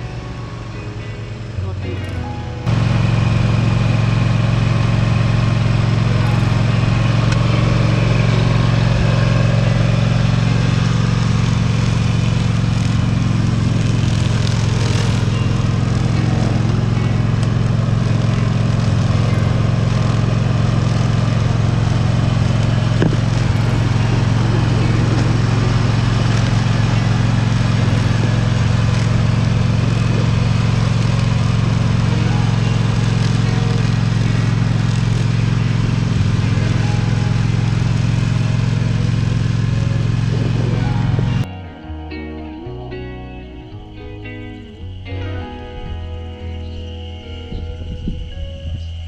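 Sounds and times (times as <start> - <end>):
acoustic guitar music: 0.0 - 47.6
engine droning: 0.0 - 49.0.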